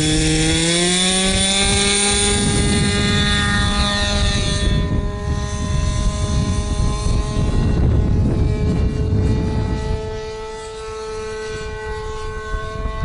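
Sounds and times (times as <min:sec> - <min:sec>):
model plane engine at high revs: 0:00.0 - 0:13.0
wind rumbling on microphone: 0:00.0 - 0:13.0.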